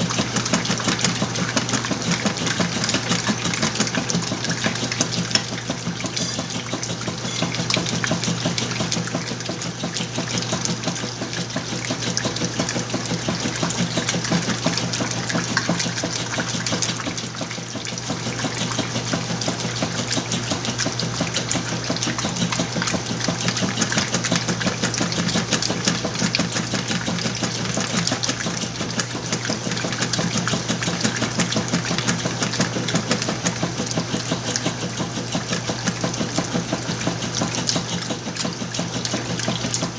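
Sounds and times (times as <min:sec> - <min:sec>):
washing machine motor hum: 0:00.0 - 0:39.9
water and clothes sloshing: 0:00.0 - 0:39.9.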